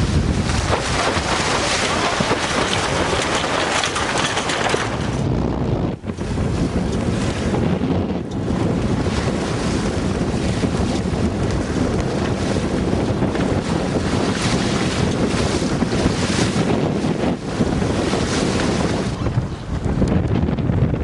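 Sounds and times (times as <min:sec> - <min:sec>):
rush of the sea: 0:00.0 - 0:21.0
wind buffeting microphone: 0:00.0 - 0:21.0.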